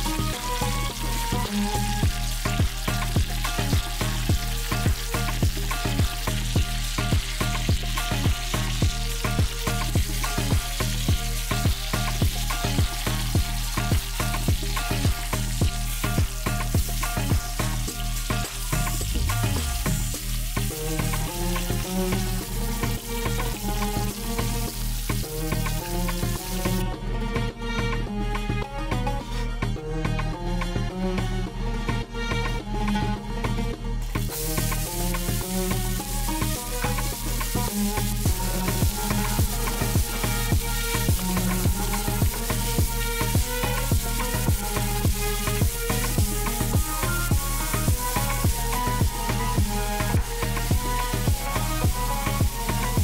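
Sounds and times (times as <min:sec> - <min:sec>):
chicken sizzling in oil: 0:00.0 - 0:26.9, 0:34.0 - 0:53.0
background music with steady beat: 0:00.0 - 0:53.0.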